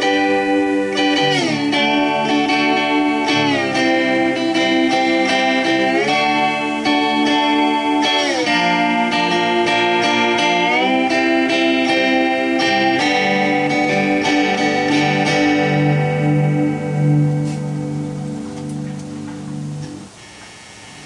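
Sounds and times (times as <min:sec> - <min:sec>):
slide guitar gliding notes: 0:00.0 - 0:20.3.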